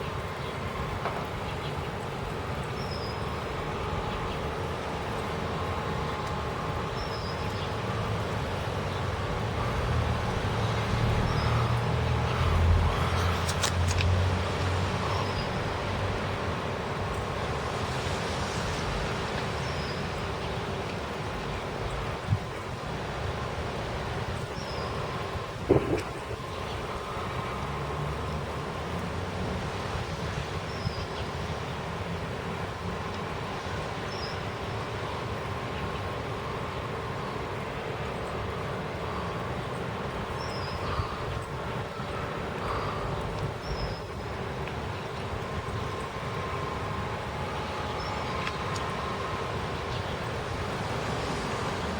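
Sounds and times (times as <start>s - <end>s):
steady outdoor rumble: 0.0s - 51.9s.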